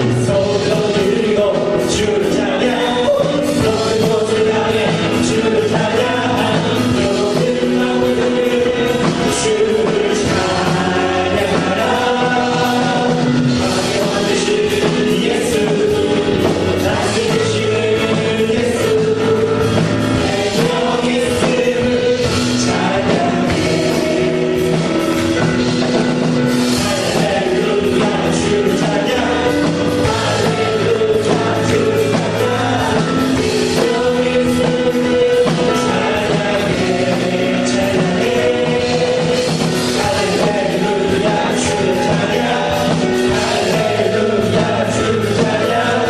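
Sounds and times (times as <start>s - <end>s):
gospel worship band: 0.0s - 46.0s
singers holding notes: 0.0s - 46.0s.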